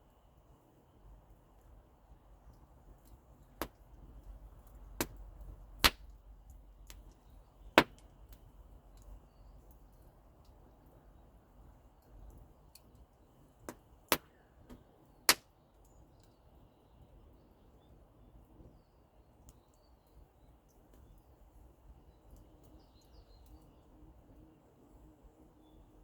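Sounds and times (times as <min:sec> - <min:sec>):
faint outdoor hiss: 0:00.0 - 0:26.0.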